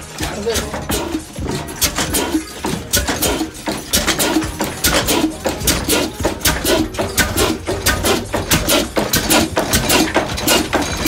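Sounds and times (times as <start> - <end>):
stationary engine thudding: 0.0 - 11.0.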